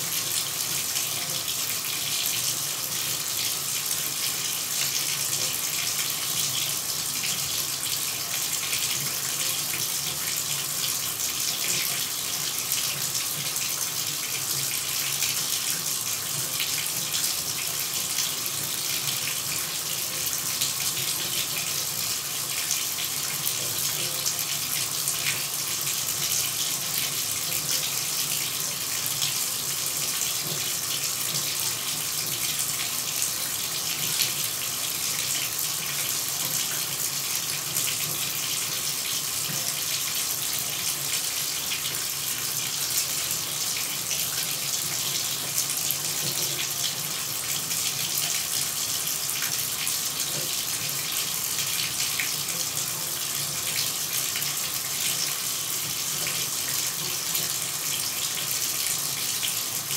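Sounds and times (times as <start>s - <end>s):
shower water running: 0.0s - 59.9s.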